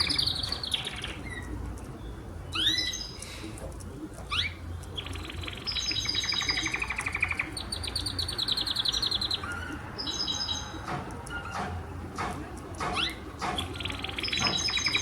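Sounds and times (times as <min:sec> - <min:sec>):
canary singing trills: 0:00.0 - 0:03.4, 0:04.2 - 0:11.7, 0:12.8 - 0:15.0.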